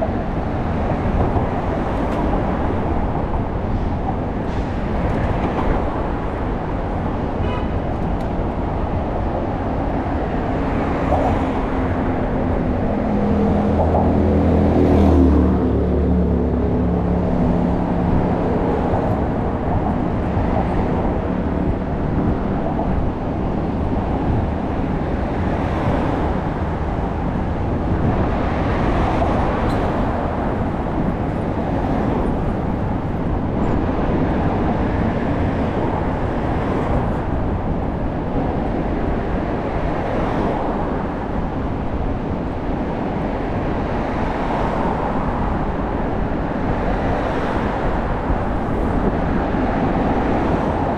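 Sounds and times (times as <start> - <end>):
city traffic rumble: 0.0 - 50.9.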